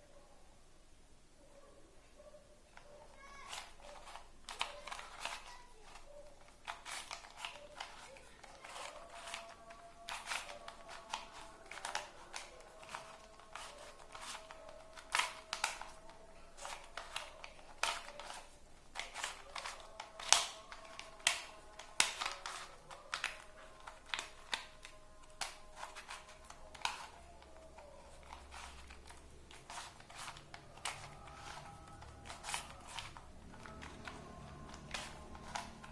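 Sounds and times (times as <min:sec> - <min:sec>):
plastic puzzle cube clicking: 0:02.8 - 0:35.9.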